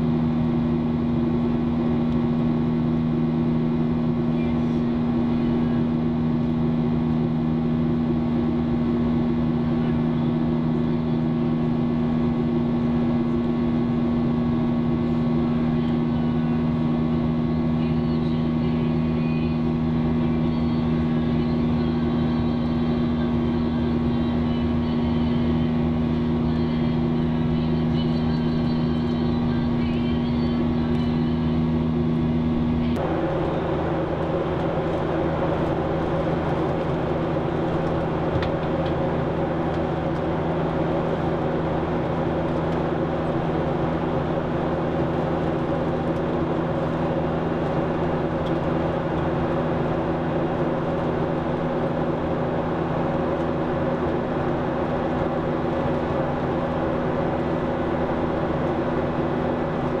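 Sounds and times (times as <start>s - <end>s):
air rushing along fuselage: 0.0s - 60.0s
airplane cabin engine drone: 0.0s - 60.0s
low hum: 0.0s - 60.0s.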